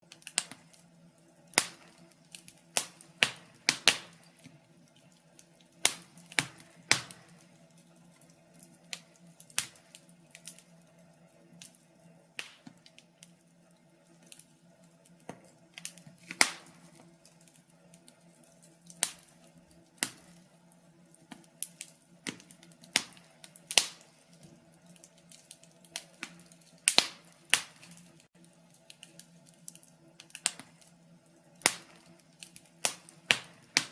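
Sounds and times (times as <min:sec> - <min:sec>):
faint steady low hum: 0:00.0 - 0:33.9
fire crackling and popping: 0:00.0 - 0:33.9.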